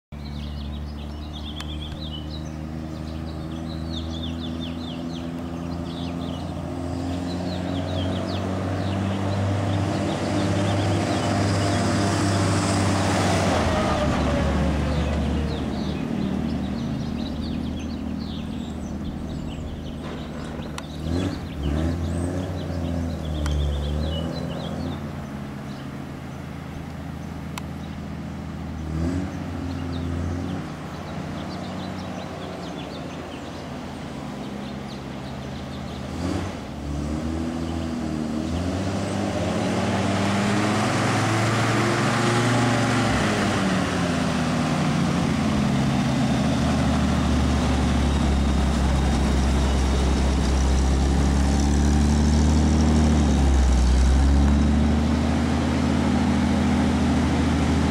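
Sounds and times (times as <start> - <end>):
birds chirping: 0.1 - 57.9
truck engine passing by: 0.2 - 57.9.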